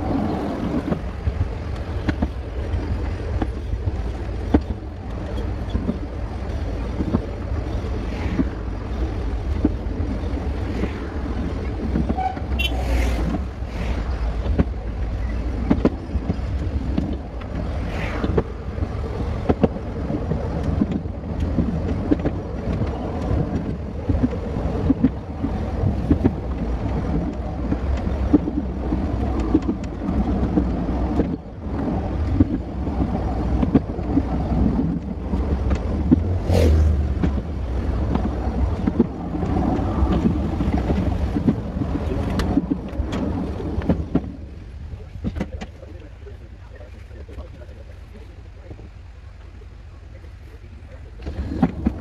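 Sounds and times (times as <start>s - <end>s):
train rumbling on track: 0.0s - 52.0s.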